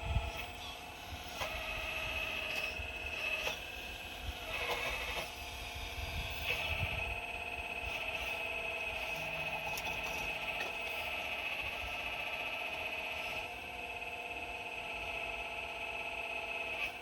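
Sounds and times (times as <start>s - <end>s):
excavator hydraulic whine: 0.0s - 17.0s.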